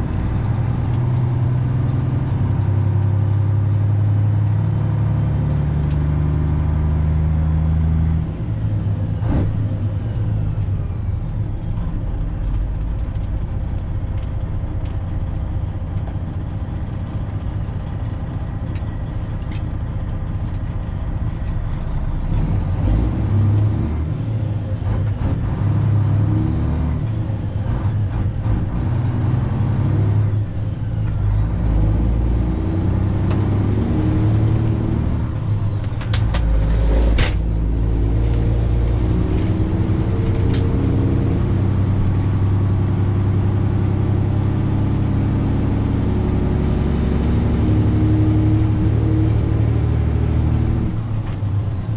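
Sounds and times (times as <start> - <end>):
high engine whine: 0.0 - 51.9
truck diesel engine shifting gears: 0.0 - 51.9.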